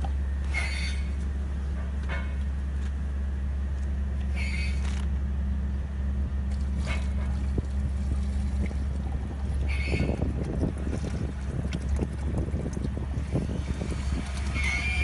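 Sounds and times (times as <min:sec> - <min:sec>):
low machine drone: 0:00.0 - 0:15.0.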